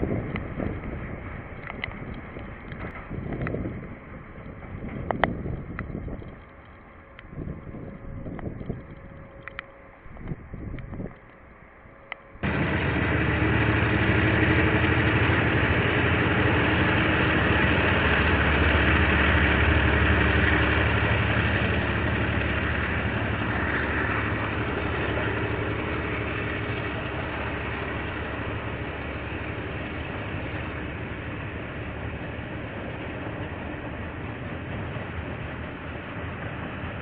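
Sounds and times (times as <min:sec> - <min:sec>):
diesel locomotive engine: 0:00.0 - 0:37.0.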